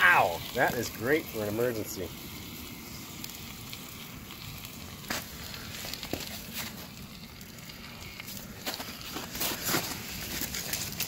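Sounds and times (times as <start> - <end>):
campfire crackling and popping: 0.0 - 11.0
rush of flame: 0.0 - 11.0.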